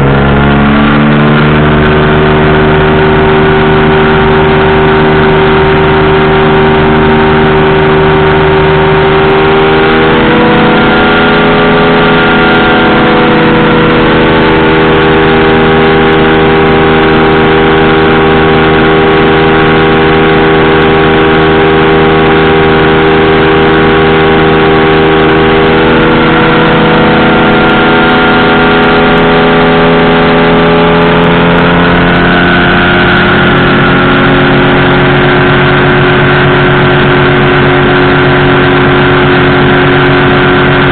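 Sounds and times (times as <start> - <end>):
powered parachute engine and propeller: 0.0 - 40.9.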